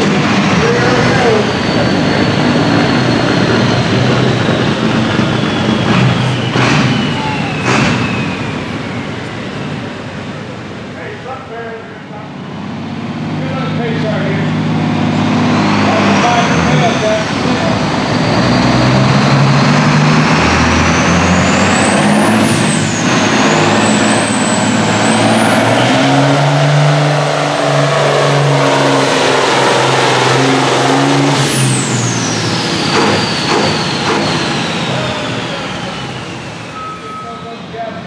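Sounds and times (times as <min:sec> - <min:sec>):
high whine: 0:00.0 - 0:38.0
tractor diesel engine running hard: 0:00.0 - 0:38.0.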